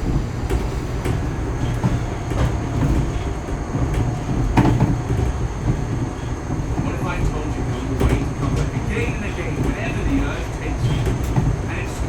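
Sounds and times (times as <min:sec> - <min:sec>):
rattling and clicks: 0:00.0 - 0:12.0
train rumbling: 0:00.0 - 0:12.0.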